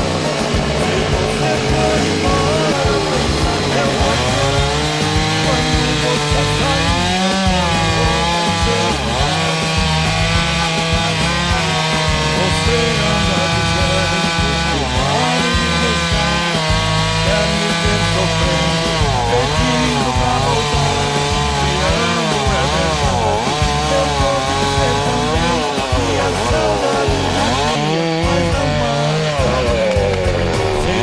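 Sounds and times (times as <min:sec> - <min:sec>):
stepping bass line: 0:00.0 - 0:31.0.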